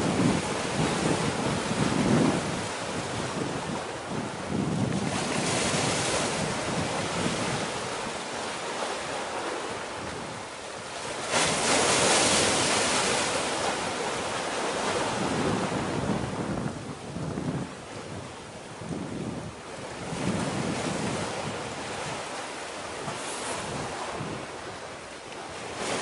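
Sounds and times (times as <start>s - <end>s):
open sea rushing: 0.0s - 26.0s
wind buffeting microphone: 0.0s - 26.0s.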